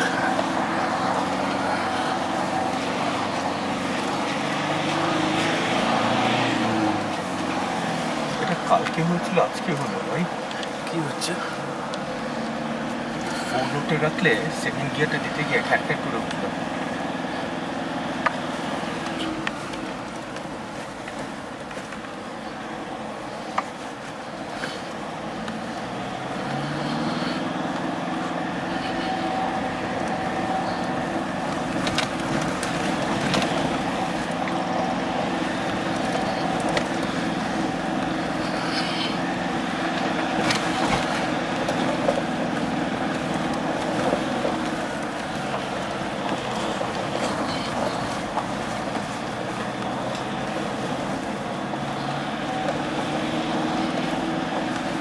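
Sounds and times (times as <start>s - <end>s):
tyres on gravel clicking: 0.0s - 55.0s
vehicle engine running under load: 0.0s - 55.0s.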